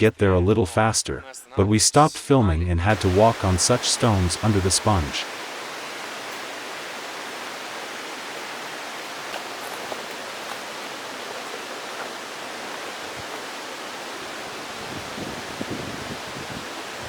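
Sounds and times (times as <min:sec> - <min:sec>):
river water rushing: 0:02.9 - 0:17.0.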